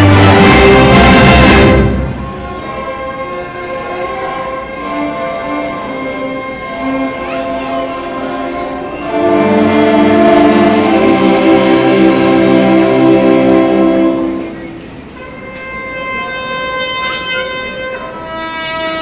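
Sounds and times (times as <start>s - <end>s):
orchestra playing sustained chords: 0.0s - 19.0s.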